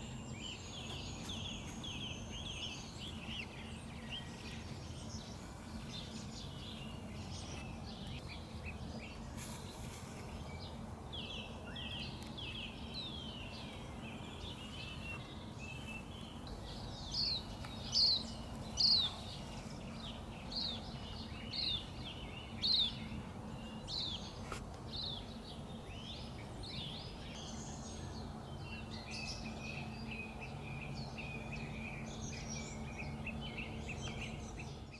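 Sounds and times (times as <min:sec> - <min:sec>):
birds chirping and twittering: 0:00.0 - 0:34.9
steady low hum: 0:00.0 - 0:34.9.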